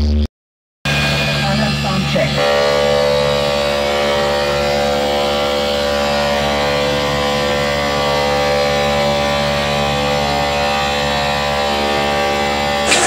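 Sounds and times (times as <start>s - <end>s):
loudspeakers blaring buzzing drone: 0.9s - 13.0s.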